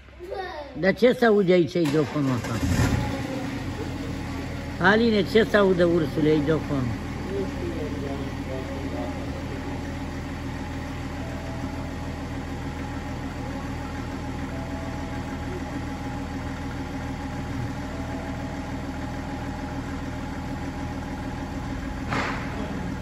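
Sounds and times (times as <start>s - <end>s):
motor humming with pulsing beat: 3.2s - 23.0s.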